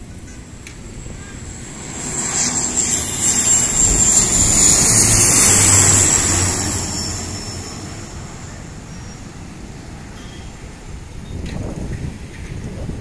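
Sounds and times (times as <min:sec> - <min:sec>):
turboprop plane droning with whine: 0:00.0 - 0:11.3.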